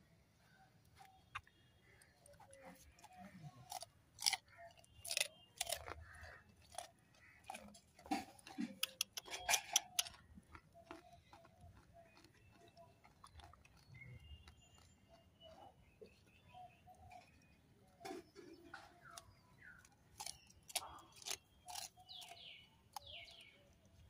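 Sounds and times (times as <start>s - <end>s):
deer crunching raw cauliflower: 0.4s - 24.0s.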